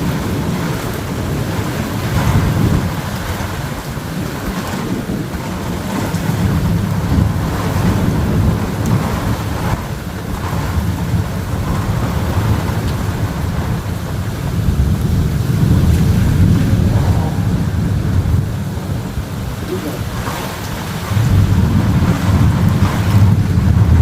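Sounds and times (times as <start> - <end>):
steady rain: 0.0 - 24.0
thunder rumbling: 0.0 - 24.0
wind: 0.0 - 24.0.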